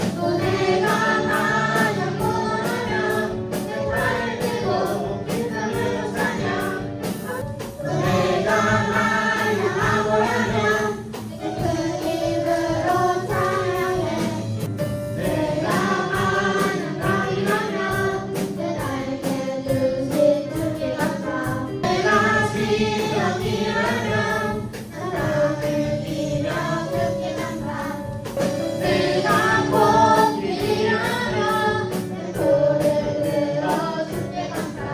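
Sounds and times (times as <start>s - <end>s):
group of voices singing: 0.0s - 28.1s, 28.7s - 34.9s
backing track with steady beat: 0.0s - 34.9s.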